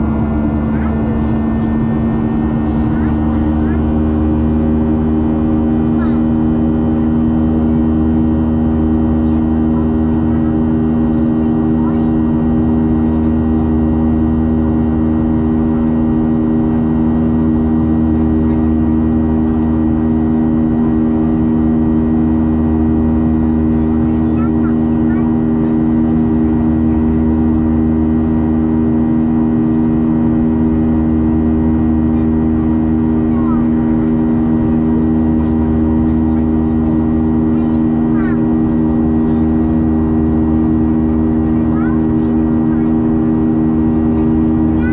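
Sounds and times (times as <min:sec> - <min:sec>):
jet engine drone in cabin: 0:00.0 - 0:44.9.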